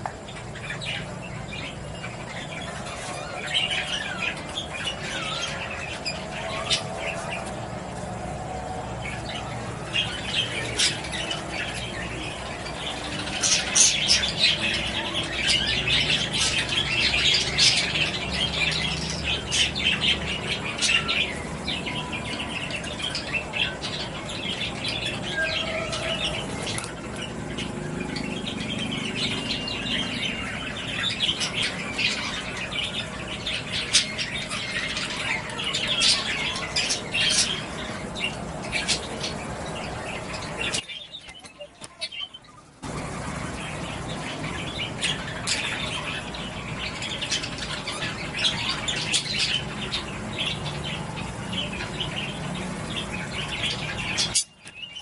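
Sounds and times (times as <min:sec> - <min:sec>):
birds chattering and chirping: 0:00.0 - 0:55.0.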